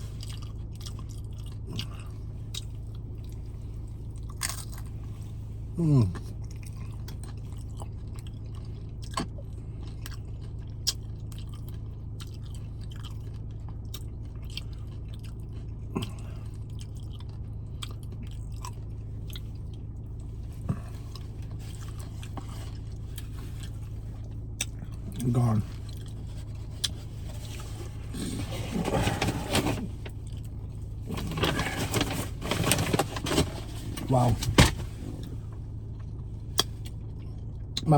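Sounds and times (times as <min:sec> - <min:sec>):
crunchy chewing: 0:00.0 - 0:05.2, 0:06.1 - 0:34.4
low background hum: 0:00.0 - 0:37.9.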